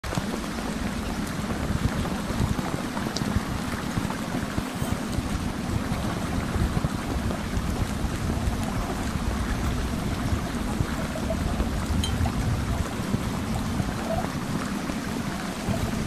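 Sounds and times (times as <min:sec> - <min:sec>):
rushing water-like noise: 0:00.0 - 0:16.0
deep fluttering rumble: 0:00.7 - 0:16.0.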